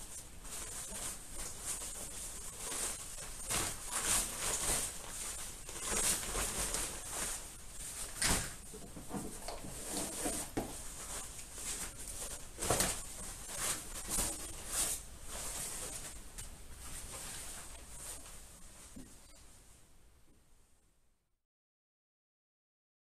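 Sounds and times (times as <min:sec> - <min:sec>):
waterproof clothing rustling: 0:00.0 - 0:19.0.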